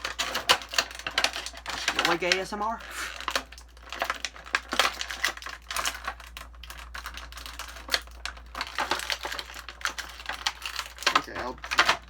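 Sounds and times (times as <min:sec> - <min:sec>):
plastic packaging clicking and crackling: 0:00.0 - 0:12.0.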